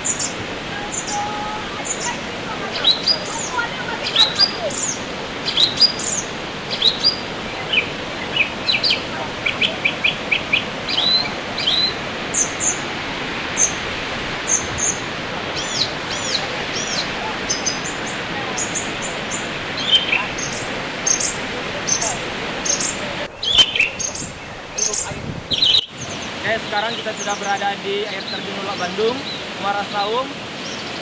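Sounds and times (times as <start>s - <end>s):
birds chirping and calling: 0.0s - 31.0s
waterfall rushing: 0.0s - 31.0s.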